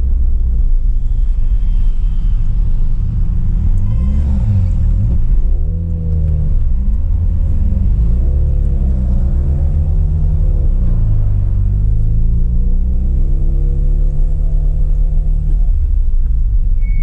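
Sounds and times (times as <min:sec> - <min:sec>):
rotary car engine revving: 0:02.0 - 0:16.3.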